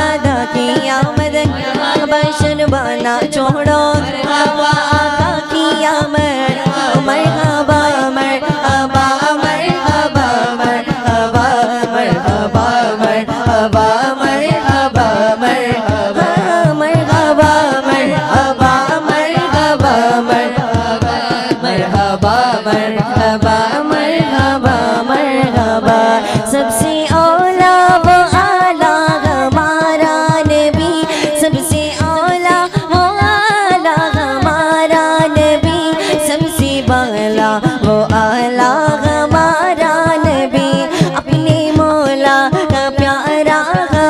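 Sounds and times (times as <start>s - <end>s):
person singing devotional song: 0.0s - 44.0s
steady drum beat: 0.0s - 44.0s.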